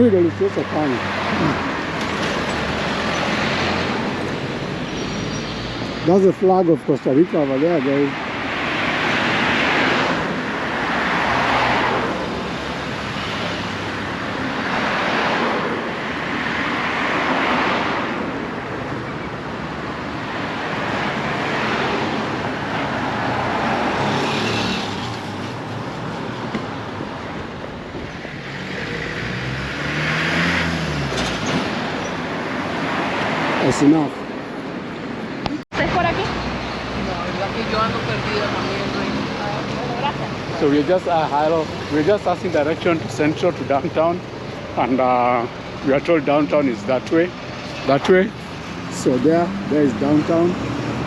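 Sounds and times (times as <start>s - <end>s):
vehicles passing: 0.0s - 51.0s.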